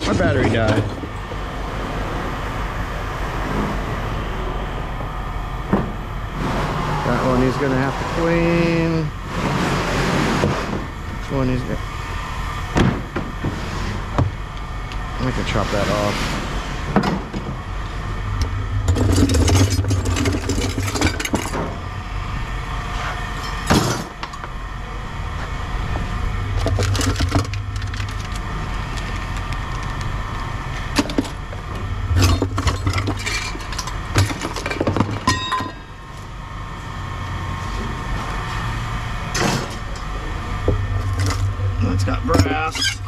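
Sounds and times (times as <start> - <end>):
low rumble: 0.0 - 23.7, 24.3 - 35.2, 35.8 - 43.0.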